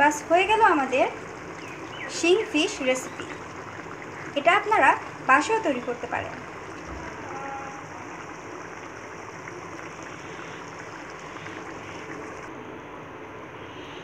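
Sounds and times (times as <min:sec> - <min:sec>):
curry simmering in a pan: 0:00.0 - 0:12.5.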